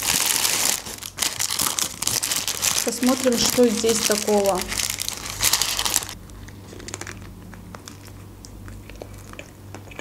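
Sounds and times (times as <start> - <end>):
paper wrapper crinkling: 0.0 - 8.1.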